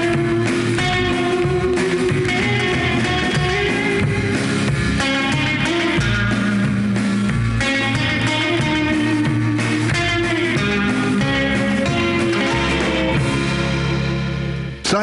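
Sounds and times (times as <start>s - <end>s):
guitar rock music: 0.0s - 15.0s.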